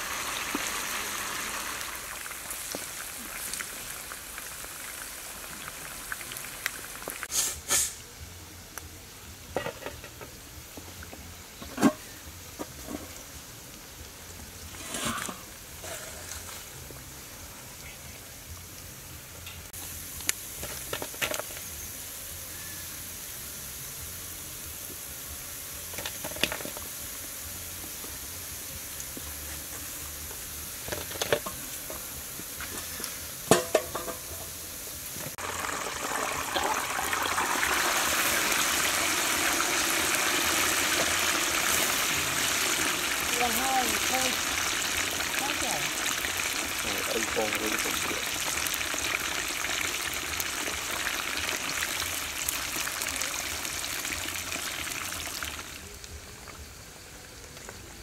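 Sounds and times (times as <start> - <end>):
deep-frying sizzle: 0.0 - 58.0.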